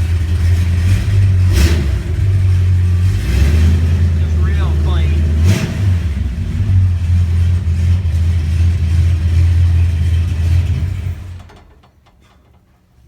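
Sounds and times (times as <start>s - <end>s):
car engine rumbling: 0.0s - 11.4s.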